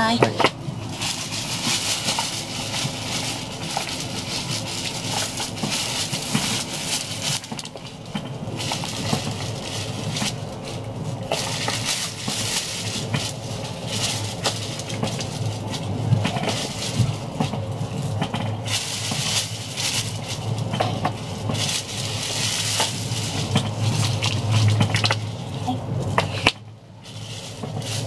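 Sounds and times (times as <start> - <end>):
plastic wrapping crinkling: 0.0 - 28.0
train rumbling: 0.0 - 28.0.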